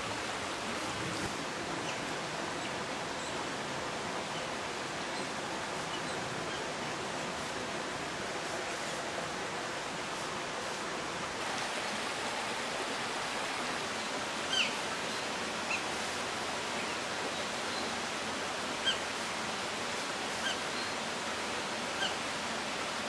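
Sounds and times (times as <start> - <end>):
water flowing over stones: 0.0 - 23.0.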